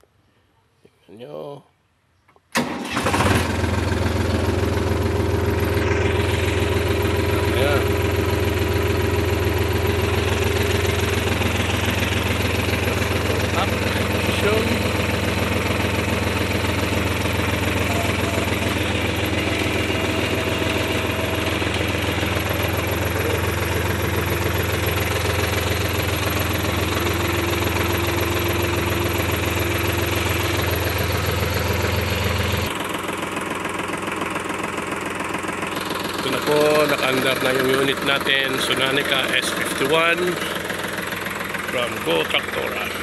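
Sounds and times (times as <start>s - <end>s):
tractor diesel engine idling: 2.6s - 43.0s.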